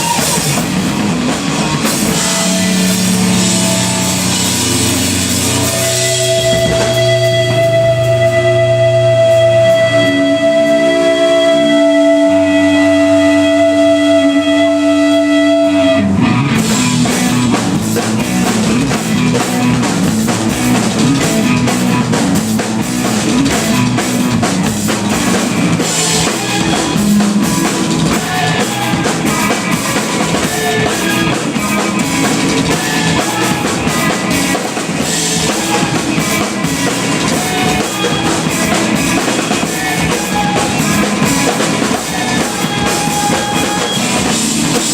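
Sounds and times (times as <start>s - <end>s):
held guitar notes ringing: 0.0s - 44.9s
live band playing drums and guitar: 0.0s - 44.9s.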